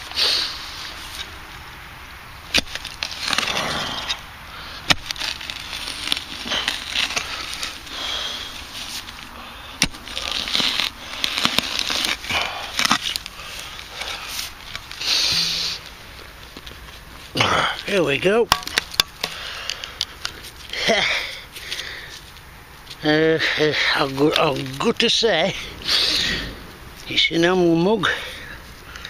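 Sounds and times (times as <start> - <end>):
digging and scraping soil: 0.0 - 29.0.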